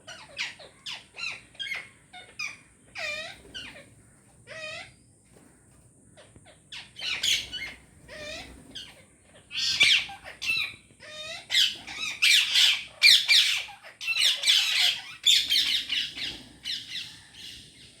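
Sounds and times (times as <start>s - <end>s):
parrots squawking: 0.0s - 3.8s, 4.5s - 4.9s, 6.8s - 17.9s.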